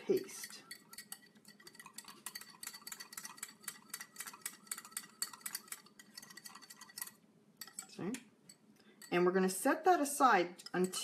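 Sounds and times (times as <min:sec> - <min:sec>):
utensil clinking against a dish: 0:00.0 - 0:09.4, 0:10.6 - 0:11.0.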